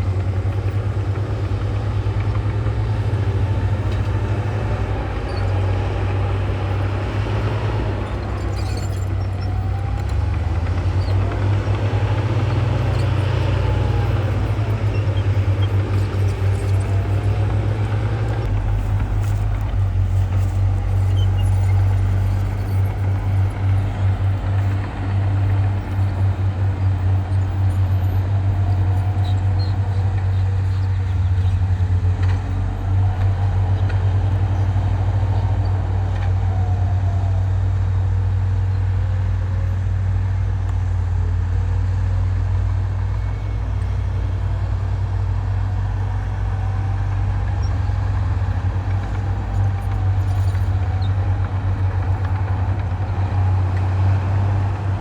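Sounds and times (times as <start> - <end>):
heavy machinery diesel engine rumbling: 0.0 - 55.0.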